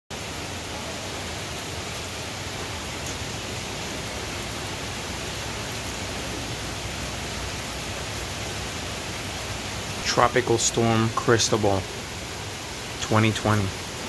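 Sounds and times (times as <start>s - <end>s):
steady rain falling: 0.1s - 14.0s.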